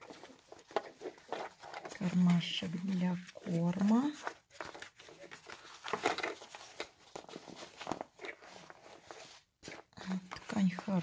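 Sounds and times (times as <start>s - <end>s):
fabric pouch rustling: 0.0s - 11.0s.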